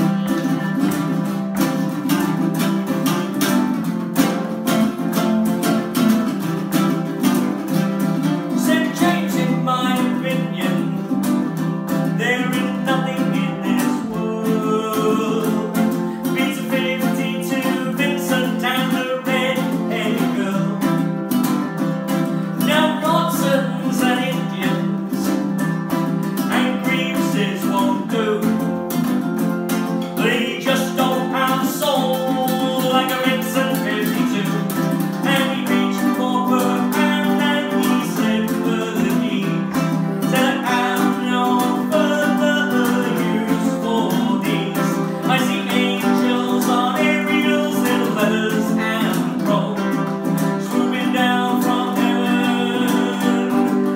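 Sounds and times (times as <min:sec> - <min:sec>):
ukuleles strummed and picked: 0:00.0 - 0:53.9.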